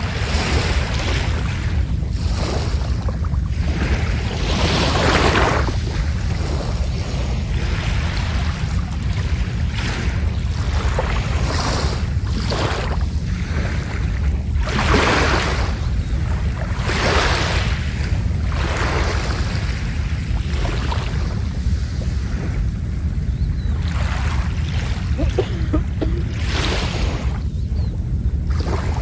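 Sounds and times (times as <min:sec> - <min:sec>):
waves breaking on sandy beach: 0:00.0 - 0:23.2, 0:23.8 - 0:27.5, 0:28.5 - 0:29.0
steady low rumble: 0:00.0 - 0:29.0.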